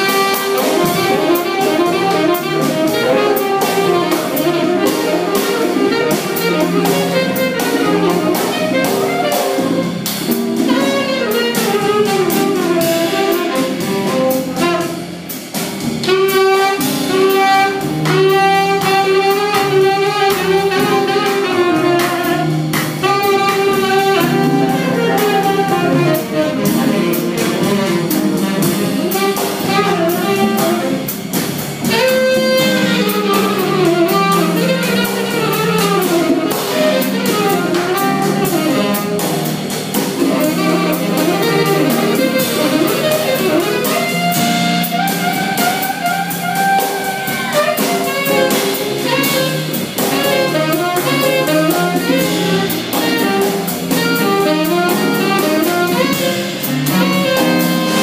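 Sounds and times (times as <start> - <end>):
congas: 0.0 - 58.0
drum kit cymbals: 0.0 - 58.0
tenor saxophone melody: 0.0 - 58.0.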